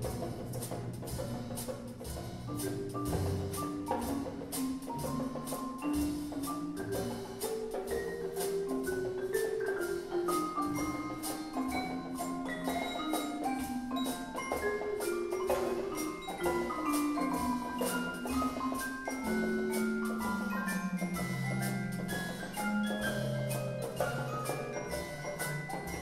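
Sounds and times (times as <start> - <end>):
drums and hand percussion: 0.0 - 26.0
marimba notes: 0.0 - 26.0.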